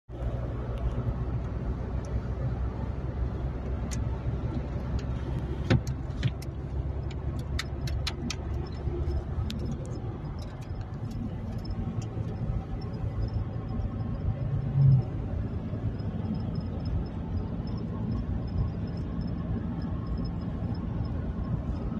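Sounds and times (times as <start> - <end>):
car interior rumble: 0.1 - 21.9
sharp clicks and ticks: 0.7 - 2.6, 3.5 - 21.6.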